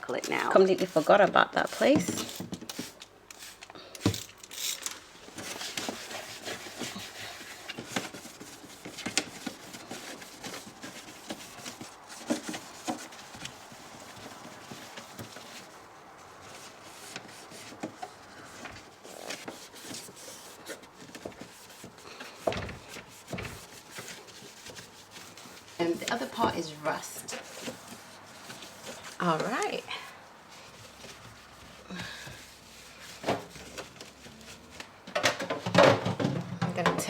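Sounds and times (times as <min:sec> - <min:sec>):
cloth scrubbing inside fridge: 0:00.0 - 0:03.6, 0:05.2 - 0:37.0.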